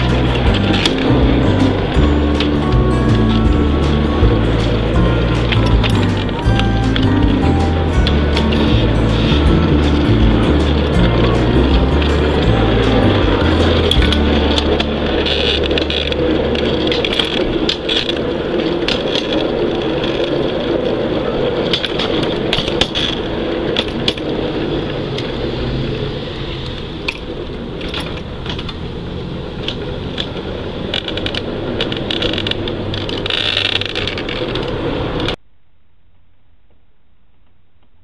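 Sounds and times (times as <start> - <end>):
locomotive running noise: 0.0 - 35.4.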